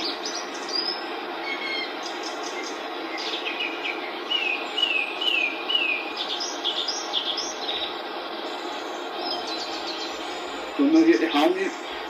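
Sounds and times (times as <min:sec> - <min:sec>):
bird singing: 0:00.0 - 0:12.0
radio static hiss: 0:00.0 - 0:12.0.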